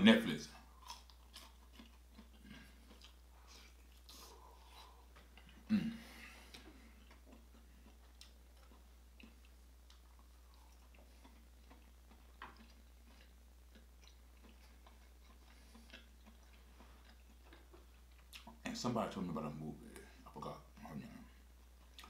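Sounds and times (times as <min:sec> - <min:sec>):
man chewing with mouth closed: 0:00.5 - 0:18.6, 0:20.2 - 0:22.0.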